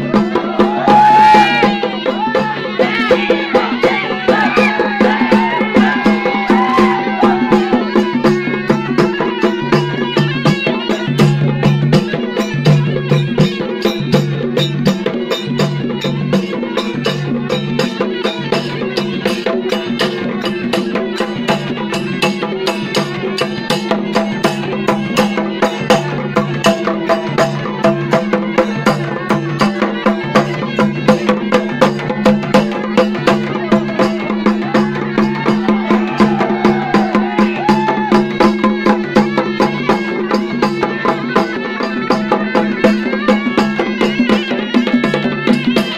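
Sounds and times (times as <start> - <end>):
fast drum strokes: 0.0 - 45.9.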